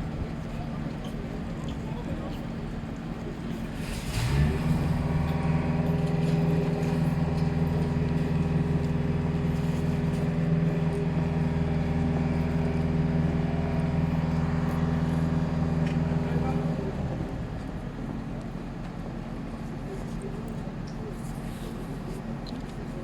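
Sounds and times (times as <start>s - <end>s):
large engine running steadily: 0.0s - 23.0s.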